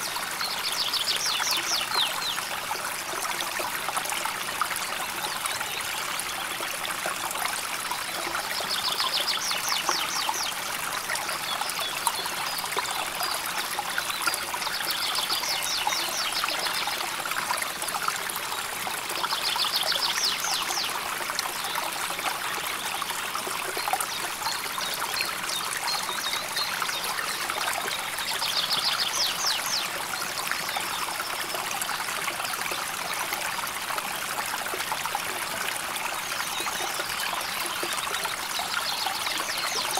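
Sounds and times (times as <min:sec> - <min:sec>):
stream trickling and burbling: 0:00.0 - 0:39.9.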